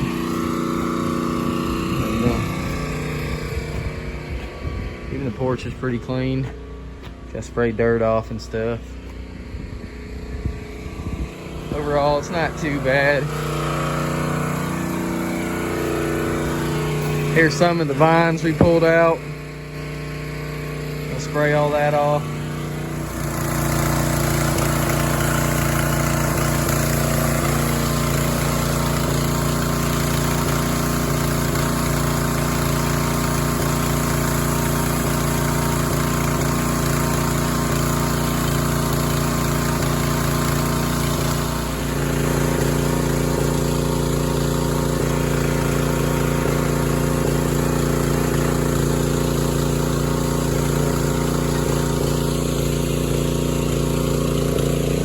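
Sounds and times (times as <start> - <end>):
water spray hissing: 0.0 - 3.9, 11.6 - 55.0
pressure washer engine running: 0.0 - 55.0.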